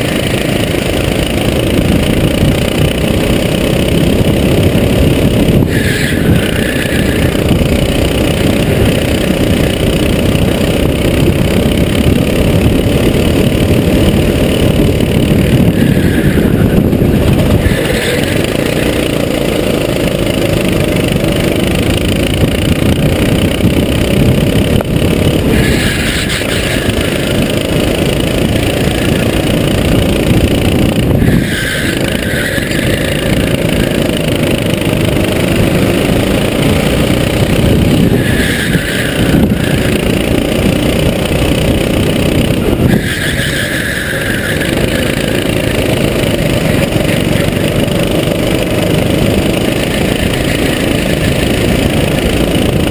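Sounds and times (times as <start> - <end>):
kart engine running hard: 0.0 - 52.9.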